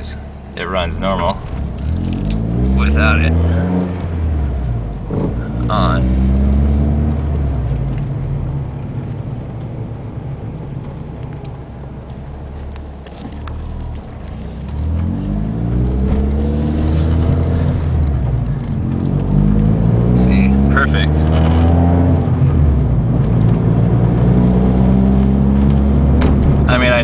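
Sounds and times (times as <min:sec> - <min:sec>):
car engine heard from cabin: 0:00.0 - 0:27.0.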